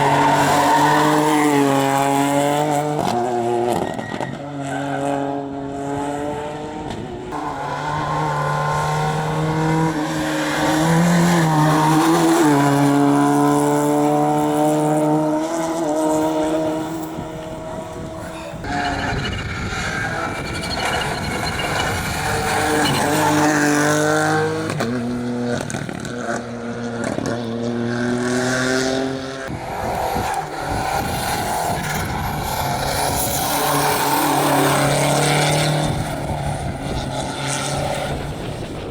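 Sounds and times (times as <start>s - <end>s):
rally car engines at high revs: 0.0s - 38.9s.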